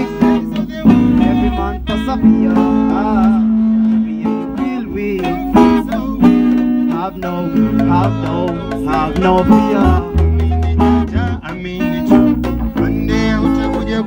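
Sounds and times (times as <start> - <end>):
live band with guitar: 0.0 - 14.0
low bass line: 0.0 - 14.0.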